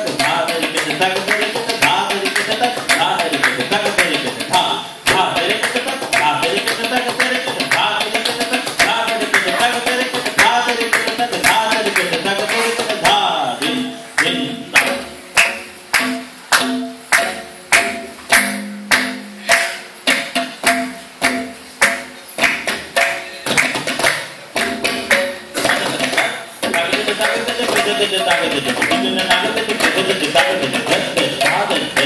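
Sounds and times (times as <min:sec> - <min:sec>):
tabla drumming: 0:00.0 - 0:32.0.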